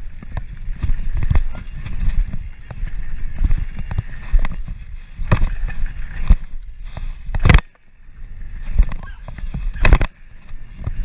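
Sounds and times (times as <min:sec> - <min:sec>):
bike knocks and rattles: 0:00.0 - 0:11.0
wind and tyre rumble: 0:00.0 - 0:11.0.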